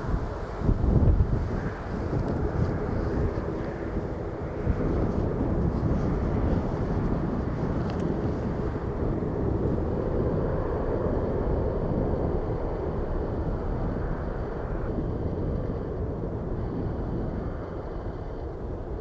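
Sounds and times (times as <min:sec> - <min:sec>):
faint high engine whine: 0:00.0 - 0:19.0
jet engines rumbling: 0:00.0 - 0:19.0
wind buffeting microphone: 0:00.0 - 0:19.0.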